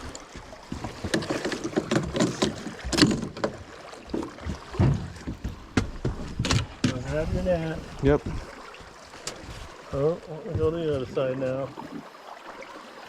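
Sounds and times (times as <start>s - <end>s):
knocks and clatter on a boat: 0.0s - 12.0s.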